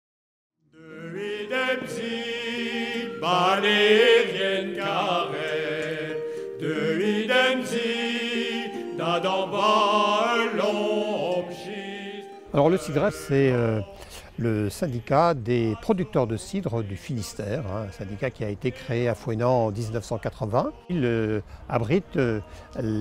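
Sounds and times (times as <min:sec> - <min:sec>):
men's choir singing: 0:00.7 - 0:23.0.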